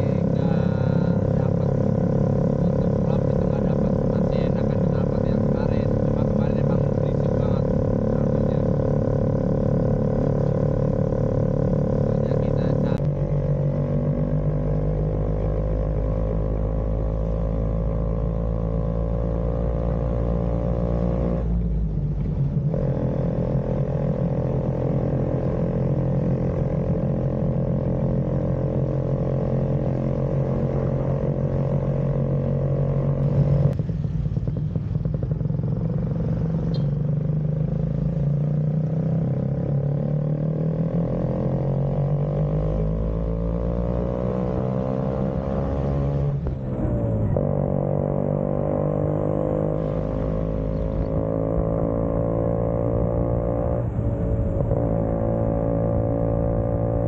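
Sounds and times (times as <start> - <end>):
scooter engine running: 0.0 - 20.9, 22.3 - 57.0.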